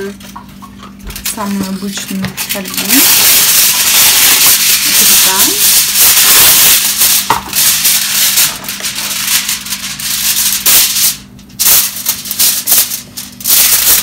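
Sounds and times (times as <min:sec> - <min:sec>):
aluminium foil crinkling: 0:00.0 - 0:14.0.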